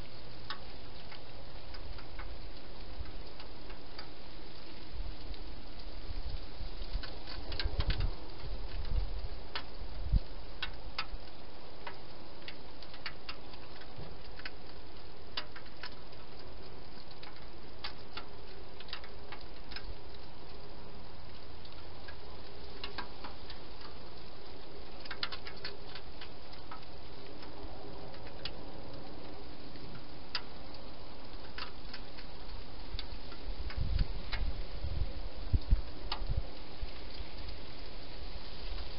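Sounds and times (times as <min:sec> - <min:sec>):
steady hiss: 0:00.0 - 0:38.9.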